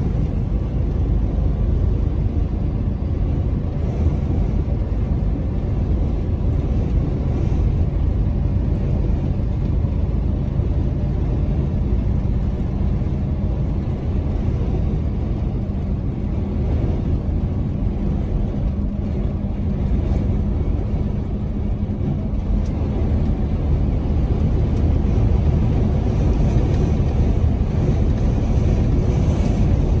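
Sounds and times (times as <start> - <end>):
engine and road noise drone: 0.0 - 30.0.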